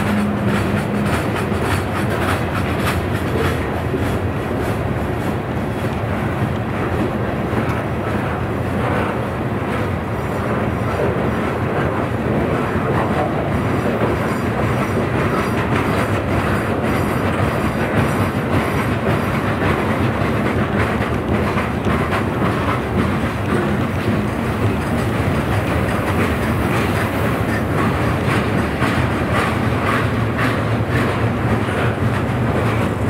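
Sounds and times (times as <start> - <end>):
wheels clicking over rail joints: 0.0 - 9.9, 10.8 - 33.0
train wheels rumbling on rail: 0.0 - 33.0.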